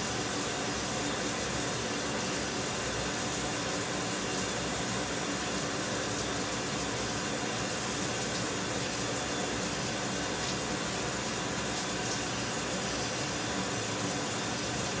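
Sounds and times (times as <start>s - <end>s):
shower water spraying: 0.0s - 15.0s.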